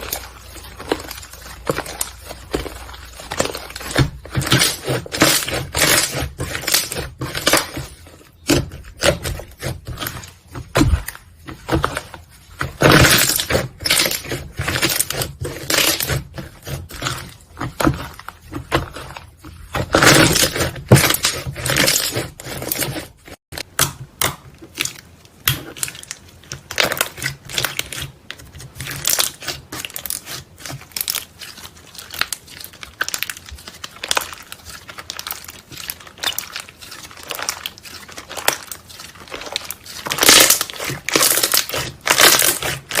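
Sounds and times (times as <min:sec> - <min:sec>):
slime crackling and popping: 0:00.0 - 0:22.8, 0:23.6 - 0:43.0.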